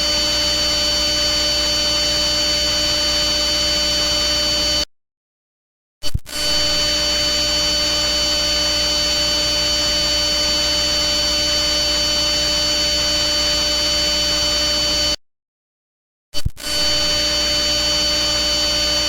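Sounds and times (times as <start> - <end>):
electric buzzing hum: 0.0 - 4.8, 6.5 - 15.2, 16.8 - 19.0.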